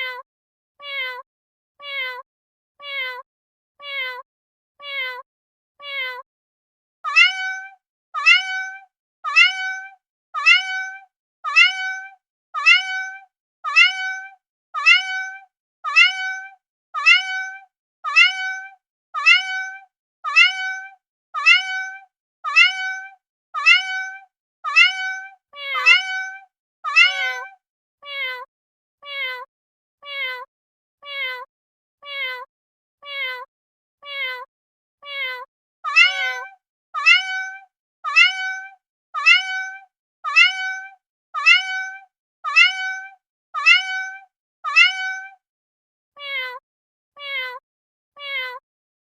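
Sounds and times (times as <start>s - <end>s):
cat meowing: 0.8s - 1.2s, 1.8s - 2.2s, 2.8s - 3.2s, 3.8s - 4.2s, 4.8s - 5.2s, 5.8s - 6.2s, 7.0s - 45.4s, 46.2s - 46.6s, 47.2s - 47.6s, 48.2s - 48.6s.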